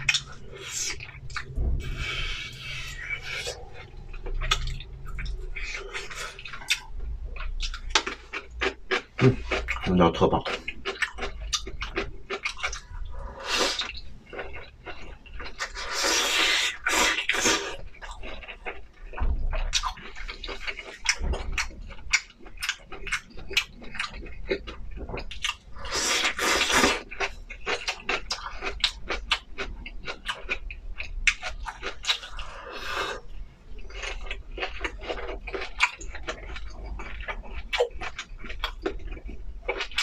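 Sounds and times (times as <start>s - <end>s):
wet chewing: 0.0s - 40.0s.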